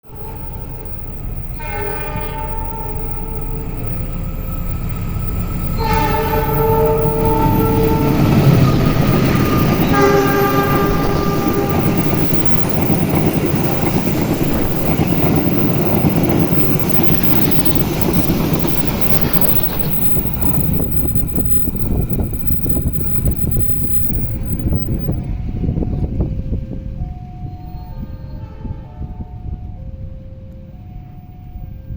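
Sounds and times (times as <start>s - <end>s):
train horn: 0.0s - 31.9s
train passing rumble: 0.0s - 31.9s.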